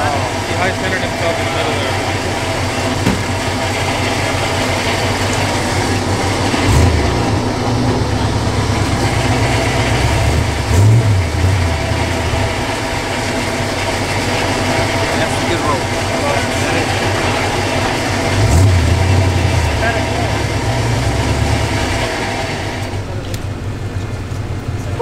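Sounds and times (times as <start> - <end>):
deep rumble of truck pulled: 0.0 - 25.0
truck engine idling: 0.0 - 25.0.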